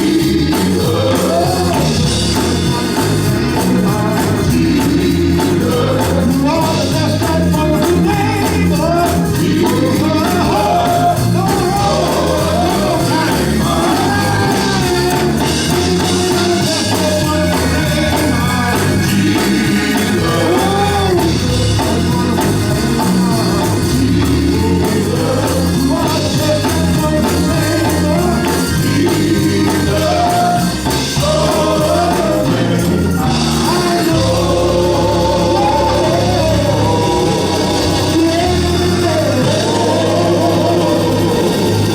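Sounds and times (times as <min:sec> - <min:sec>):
gospel singing over a band: 0:00.0 - 0:41.9.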